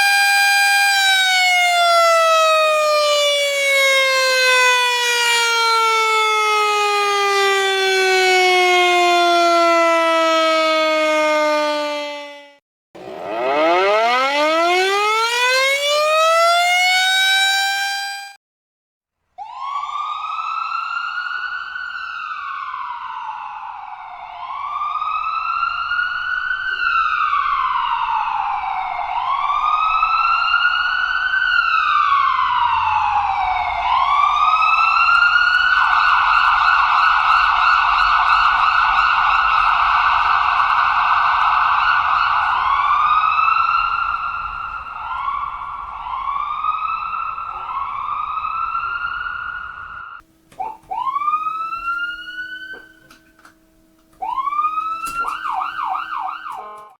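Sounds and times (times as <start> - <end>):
emergency vehicle siren wailing: 0.0 - 18.4, 19.4 - 56.9
siren fast yelp: 0.0 - 18.4, 19.4 - 39.6, 41.7 - 53.2, 54.2 - 56.9
siren winding up: 0.0 - 18.4, 29.4 - 56.9.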